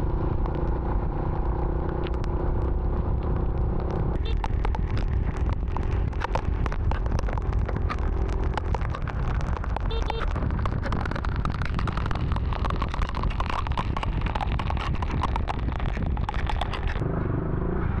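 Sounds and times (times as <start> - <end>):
wind rumble: 0.0 - 18.0
raindrops ticking on helmet: 0.4 - 17.0.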